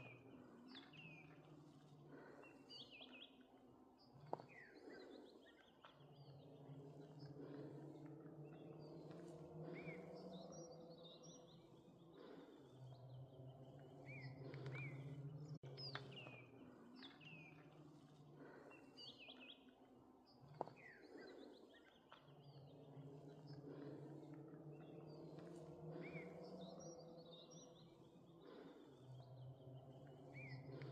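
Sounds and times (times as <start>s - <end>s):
small birds chirping: 0.0s - 30.9s.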